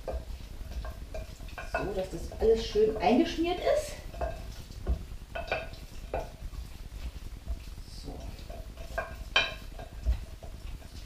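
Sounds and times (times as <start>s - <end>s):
hands kneading wet meat: 0.0s - 11.0s.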